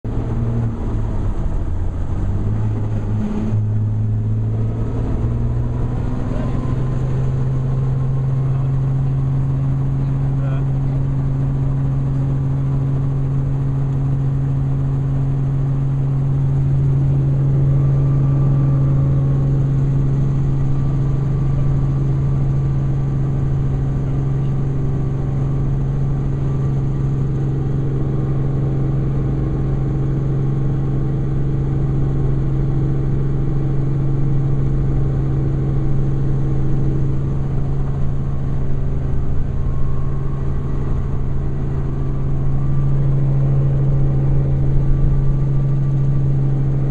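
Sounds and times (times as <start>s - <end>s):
helicopter engine and rotor drone: 0.1s - 46.9s.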